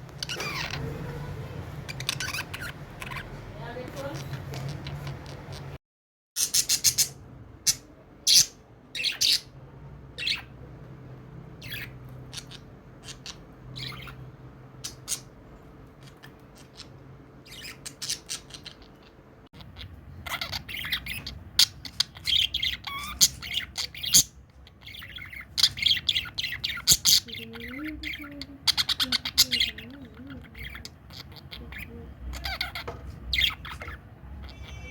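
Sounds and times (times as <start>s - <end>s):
budgerigars chirping: 0.2s - 5.8s, 6.4s - 9.6s, 10.2s - 10.6s, 11.6s - 34.9s.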